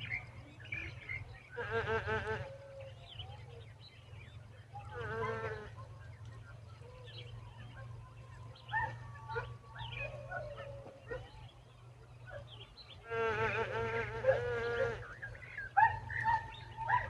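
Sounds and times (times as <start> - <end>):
nestling birds chirping: 2.2 - 17.0.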